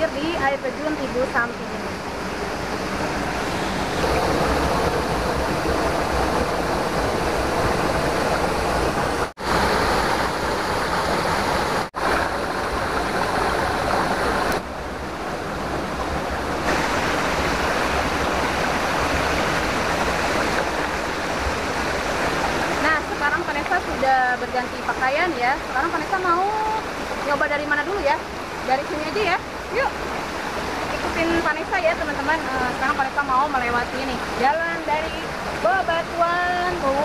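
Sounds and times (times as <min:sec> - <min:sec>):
stream water splashing over rocks: 0:00.0 - 0:37.0.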